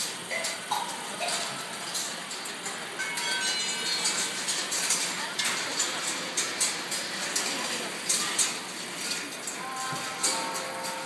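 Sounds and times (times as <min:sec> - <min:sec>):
golf balls clattering on tracks: 0:00.0 - 0:11.0.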